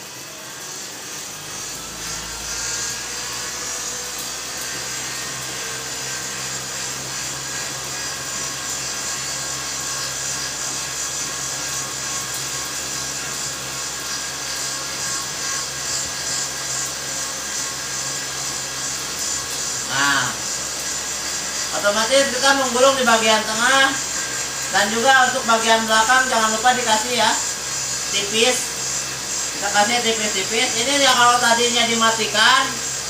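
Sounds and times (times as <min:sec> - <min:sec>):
cotton candy machine motor spinning: 0:00.0 - 0:33.0.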